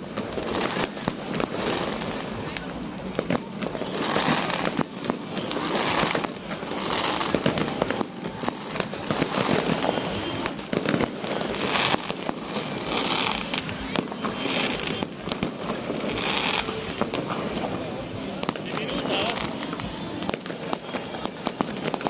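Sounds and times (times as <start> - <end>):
fireworks bangs: 0.0 - 22.0
fireworks crackling bursts: 0.0 - 22.0.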